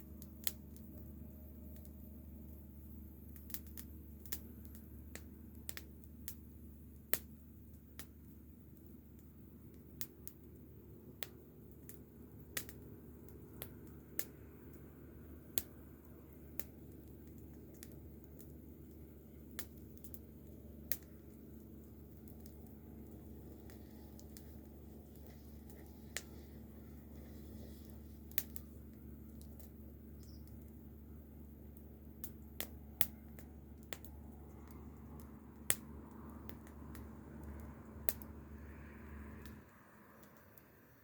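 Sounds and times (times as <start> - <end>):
low steady hum: 0.0 - 41.0
wood fire crackling: 0.0 - 41.0.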